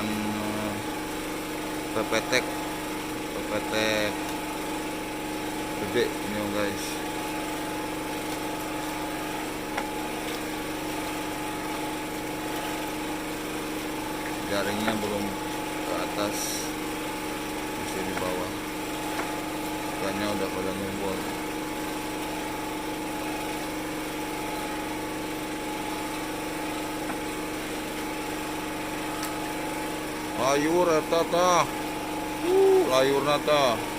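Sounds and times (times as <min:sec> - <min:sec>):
small engine humming: 0:00.0 - 0:33.9.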